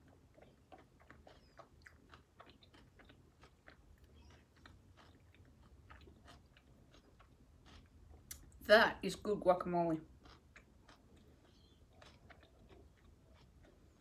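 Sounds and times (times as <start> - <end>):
chewing with mouth clicks: 0.0 - 8.6, 10.0 - 14.0.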